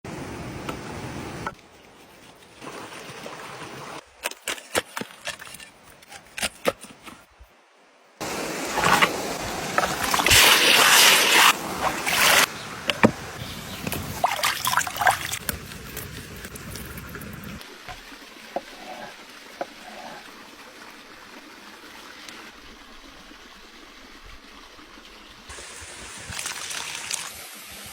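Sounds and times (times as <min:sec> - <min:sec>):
water splashing and trickling: 0:00.1 - 0:07.6, 0:08.2 - 0:27.9.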